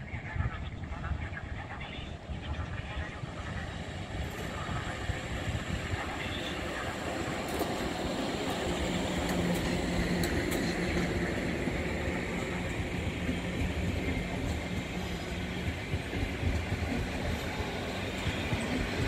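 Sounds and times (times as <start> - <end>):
train wheels rumbling on rails: 2.2 - 19.0.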